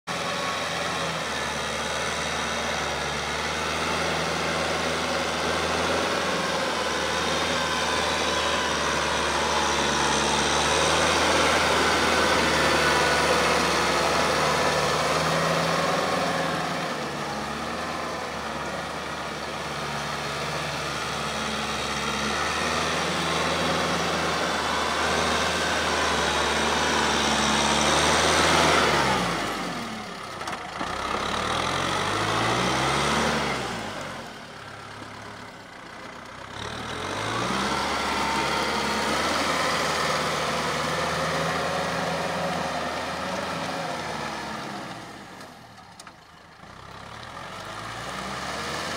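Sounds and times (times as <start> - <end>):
tractor diesel engine running: 0.1 - 48.9.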